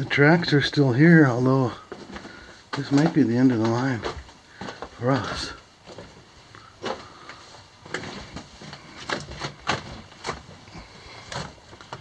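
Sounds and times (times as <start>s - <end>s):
footsteps on loose rock: 1.7s - 12.0s.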